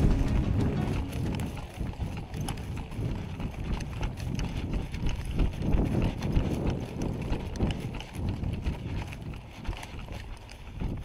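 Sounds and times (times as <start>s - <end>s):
grass rustling: 0.0s - 10.9s
footsteps in tall grass: 0.0s - 11.0s.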